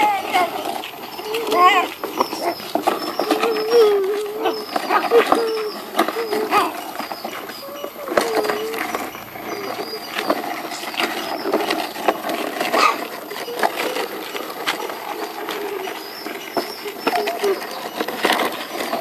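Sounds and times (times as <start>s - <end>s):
toy truck wheels crunching on gravel: 0.0s - 19.0s.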